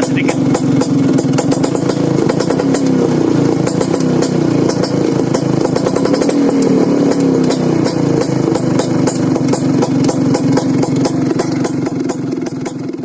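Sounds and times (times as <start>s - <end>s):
metallic ticking from exhaust: 0.0s - 13.0s
scooter engine running: 0.0s - 13.0s.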